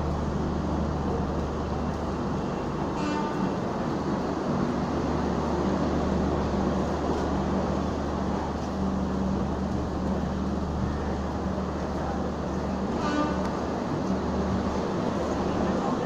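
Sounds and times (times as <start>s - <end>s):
constant low hum: 0.0s - 16.0s
train coaches rumbling past: 0.0s - 16.0s.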